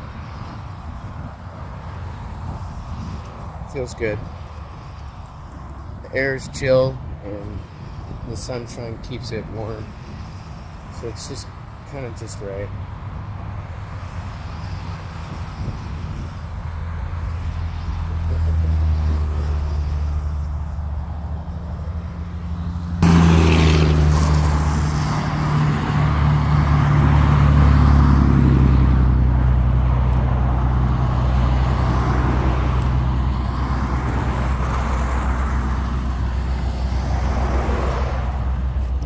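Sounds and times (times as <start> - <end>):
vehicle engine humming: 0.0 - 39.0.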